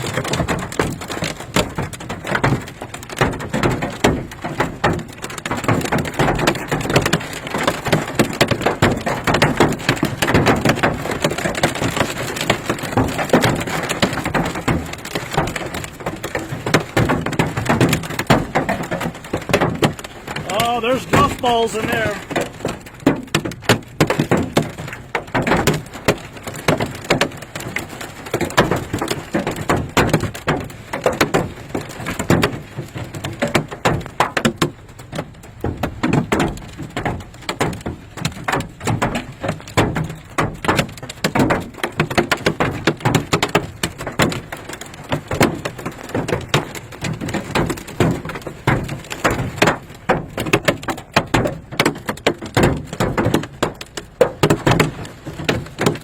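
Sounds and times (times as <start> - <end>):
hail pounding on car metal: 0.0 - 56.0.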